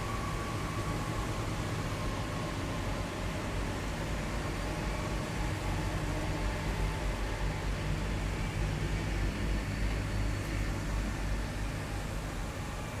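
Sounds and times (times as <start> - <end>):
heavy vehicle engines droning: 0.0 - 13.0.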